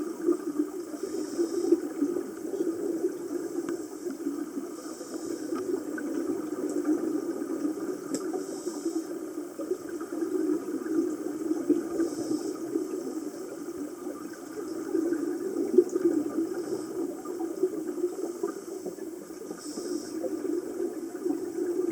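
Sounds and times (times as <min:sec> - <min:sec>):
bubbles hissing: 0:00.0 - 0:21.9.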